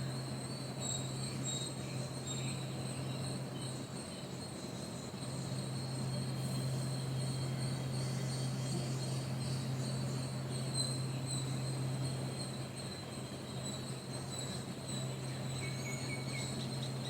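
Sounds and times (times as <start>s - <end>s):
crickets trilling: 0.0s - 17.0s
steady low hum: 0.0s - 17.0s.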